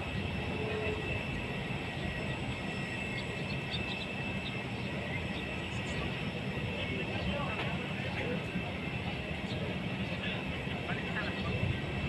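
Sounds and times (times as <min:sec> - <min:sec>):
jet engine rumble and whine: 0:00.0 - 0:12.0.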